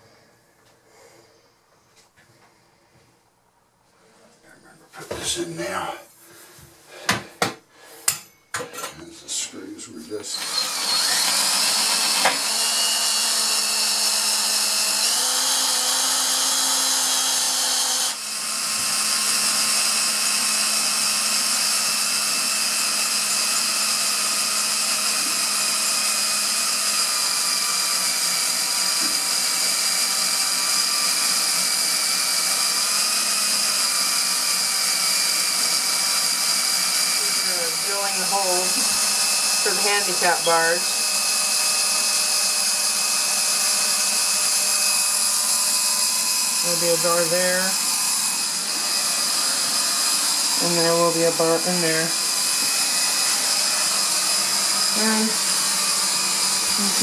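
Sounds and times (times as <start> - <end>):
drill grinding through tile: 5.1 - 6.0, 9.3 - 57.0.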